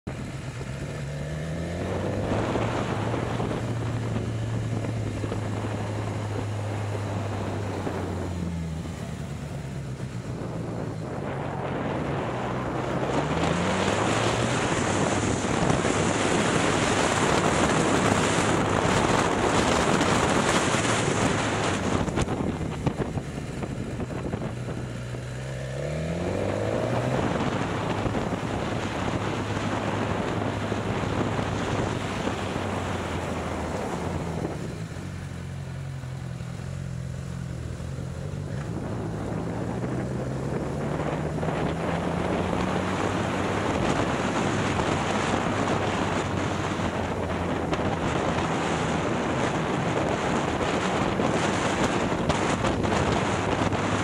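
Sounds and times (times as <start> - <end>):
motorcycle engine revving: 0.0 - 54.0
wind buffeting microphone: 0.1 - 35.4, 38.3 - 54.0.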